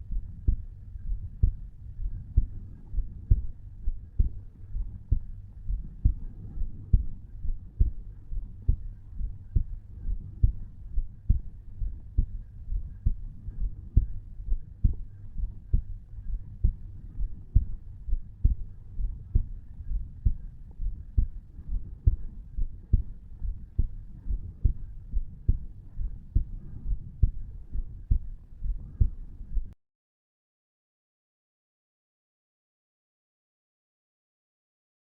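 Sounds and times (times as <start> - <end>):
heartbeat thumps: 0.0 - 29.8.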